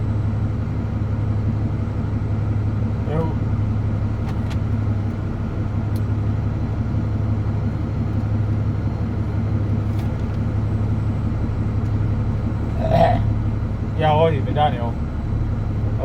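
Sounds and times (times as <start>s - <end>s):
road noise: 0.0s - 16.0s
truck diesel engine drone: 0.0s - 16.0s.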